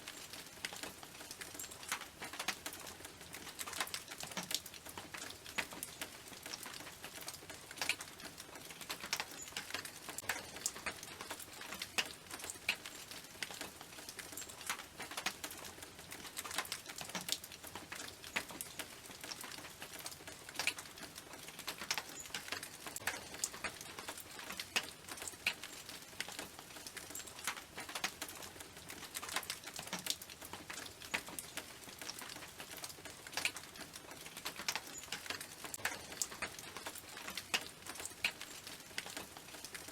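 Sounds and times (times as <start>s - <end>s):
rain on a tin roof: 0.0s - 39.9s
raindrops ticking on metal: 0.0s - 39.9s.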